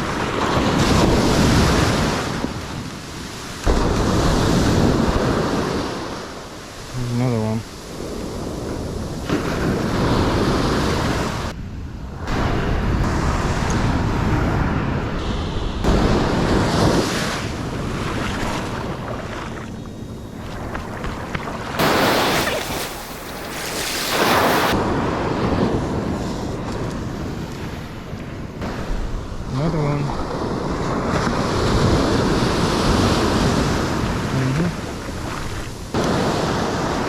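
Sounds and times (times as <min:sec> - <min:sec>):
surf washing onto beach: 0:00.0 - 0:11.5, 0:12.3 - 0:37.0
wind buffeting microphone: 0:00.0 - 0:37.0.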